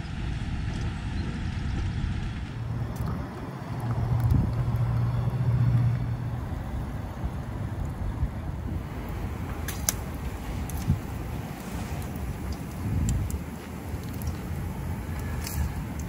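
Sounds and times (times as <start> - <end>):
outdoor rushing noise: 0.0 - 16.0
vehicle engine hum: 0.0 - 16.0.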